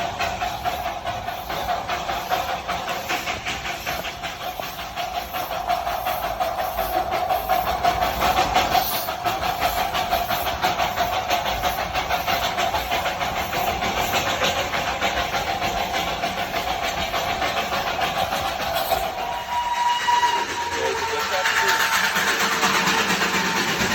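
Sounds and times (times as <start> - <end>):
steam hiss: 0.0 - 23.9
steam locomotive chuffing: 0.0 - 23.9.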